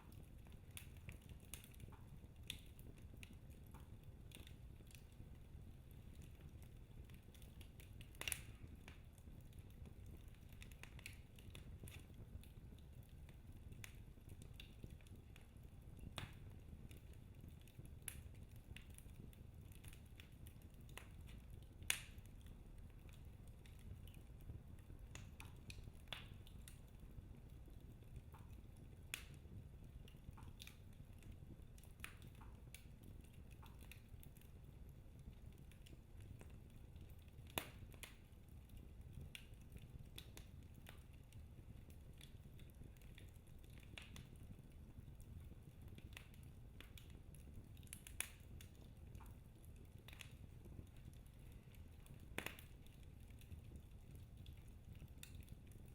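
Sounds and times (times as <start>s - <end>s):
faint low rumble: 0.0s - 55.9s
wood fire crackling: 0.0s - 55.9s.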